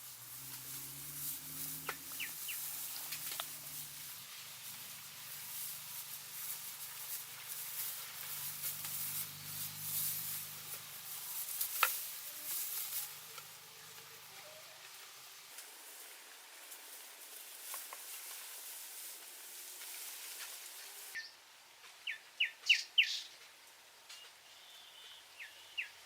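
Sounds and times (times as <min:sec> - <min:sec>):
faint crackling and rustling: 0:00.0 - 0:22.2.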